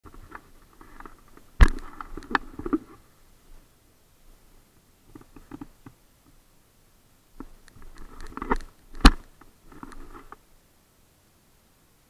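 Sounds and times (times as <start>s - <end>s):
rustles: 0.0s - 12.0s.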